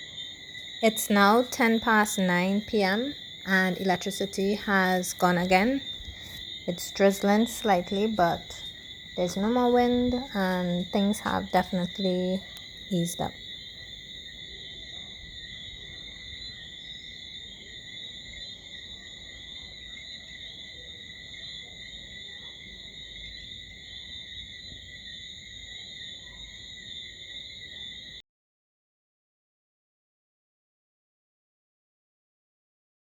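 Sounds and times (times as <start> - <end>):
crickets and insects trilling: 0.0 - 28.2.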